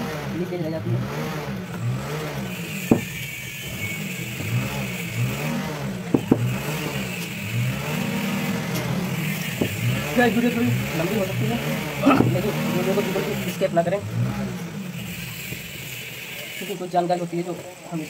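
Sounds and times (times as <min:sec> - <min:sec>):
engine running: 0:00.0 - 0:16.6.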